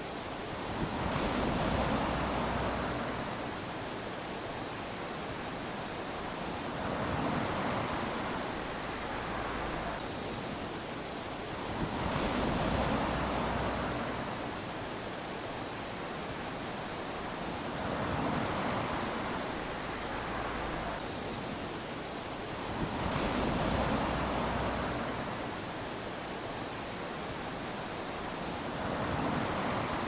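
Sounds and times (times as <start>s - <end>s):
small waves lapping on sand: 0.0s - 30.0s.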